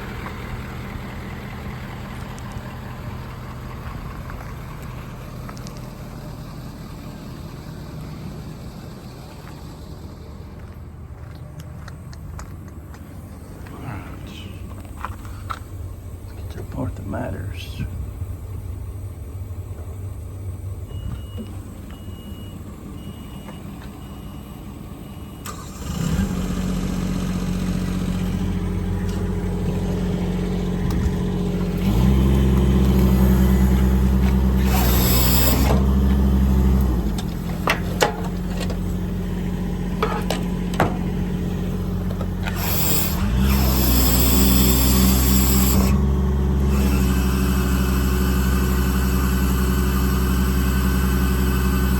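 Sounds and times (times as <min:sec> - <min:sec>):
diesel engine starting and idling: 0:00.0 - 0:51.9.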